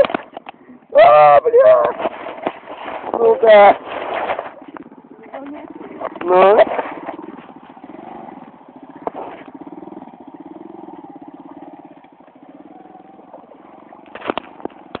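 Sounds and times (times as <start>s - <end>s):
small motorcycle engine: 2.0s - 15.0s.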